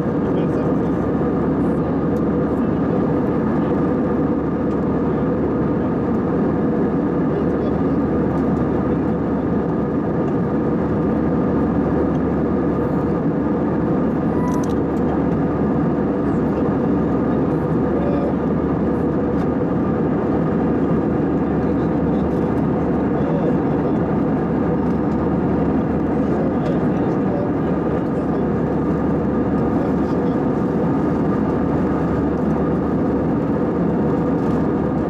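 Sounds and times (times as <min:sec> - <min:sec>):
airliner cabin drone: 0:00.0 - 0:35.0.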